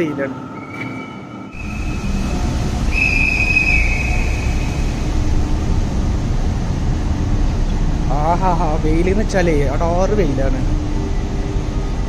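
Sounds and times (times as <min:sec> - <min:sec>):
thin high whine: 0:00.0 - 0:12.0
low rumble and hiss: 0:01.5 - 0:12.0.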